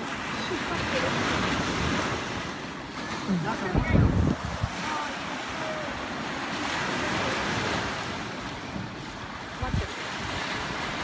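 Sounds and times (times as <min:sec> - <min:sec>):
waves washing up a beach: 0:00.0 - 0:11.0
wind rumble on microphone: 0:00.9 - 0:11.0.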